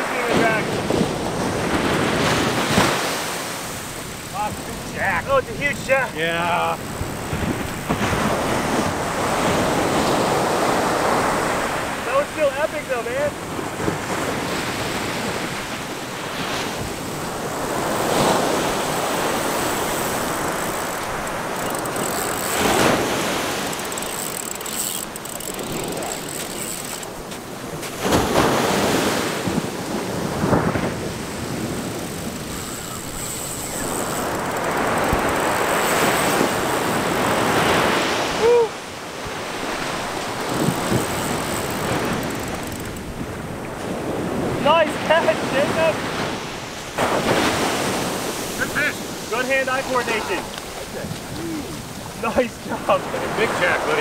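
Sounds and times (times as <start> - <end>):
ocean surf washing up beach: 0.0 - 54.0
wind buffeting microphone: 0.0 - 54.0.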